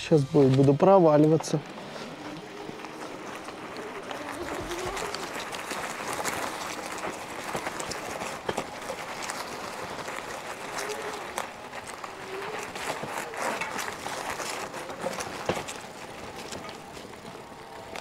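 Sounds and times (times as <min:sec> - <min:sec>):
bicycle tyres grinding in sand: 0:00.0 - 0:18.0
bike clicks and rattles: 0:00.0 - 0:18.0.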